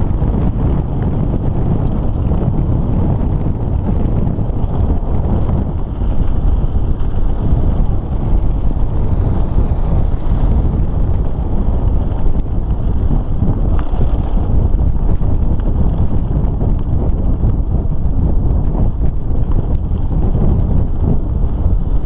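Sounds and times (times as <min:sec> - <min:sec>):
wind buffeting microphone: 0:00.0 - 0:22.0
tyres rolling on gravel: 0:00.1 - 0:22.0.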